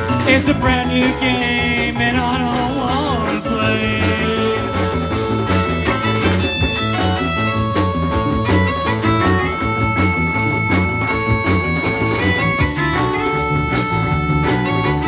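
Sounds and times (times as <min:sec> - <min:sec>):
drum kit: 0:00.0 - 0:15.0
electric guitars: 0:00.0 - 0:15.0
hand drum: 0:00.0 - 0:15.0.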